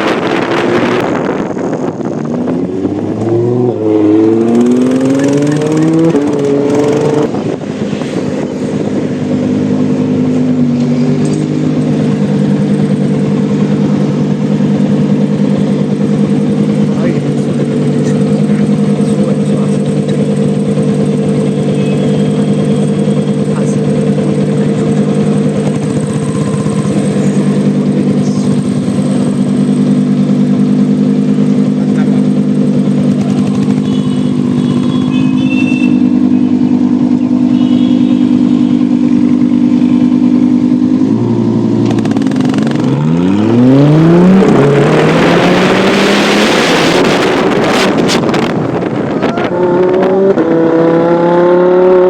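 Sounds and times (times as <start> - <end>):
sports car engine revving: 0.0 - 52.0.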